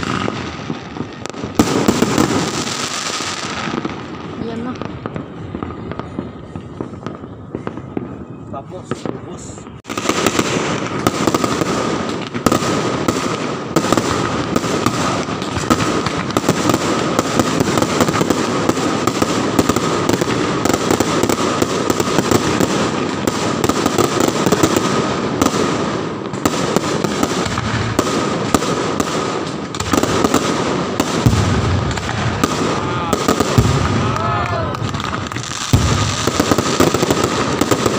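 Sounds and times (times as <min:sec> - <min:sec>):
fireworks bangs and crackling: 0:00.0 - 0:37.9.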